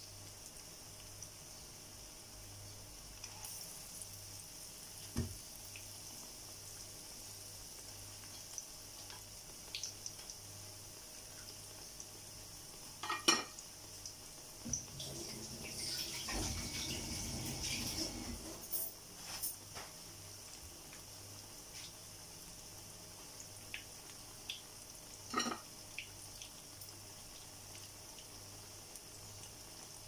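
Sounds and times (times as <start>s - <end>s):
batter deep-frying in oil: 0.0s - 30.0s.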